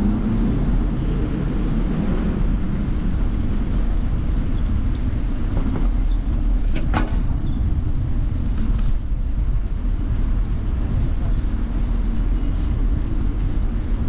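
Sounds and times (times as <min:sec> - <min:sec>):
bicycle tyres rolling: 0:00.0 - 0:14.0
wind buffeting microphone: 0:00.0 - 0:14.0.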